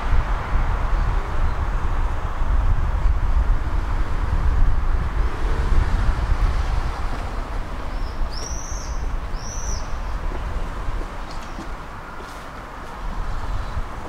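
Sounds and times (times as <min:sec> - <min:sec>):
tram rumbling along track: 0:00.0 - 0:14.0.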